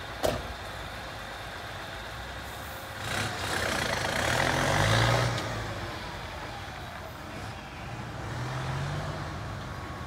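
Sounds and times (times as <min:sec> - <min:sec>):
truck diesel engine revving: 0:00.0 - 0:10.0.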